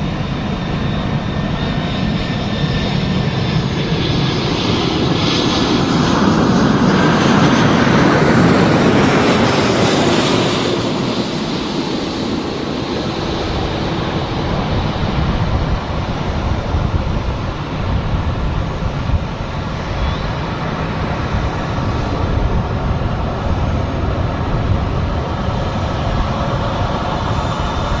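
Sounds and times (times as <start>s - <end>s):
jet airliner rumble: 0.0s - 28.0s.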